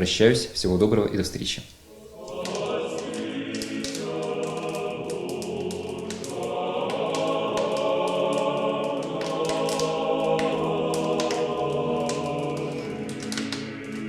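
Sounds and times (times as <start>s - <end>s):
choir singing sustained chords: 1.8s - 14.0s.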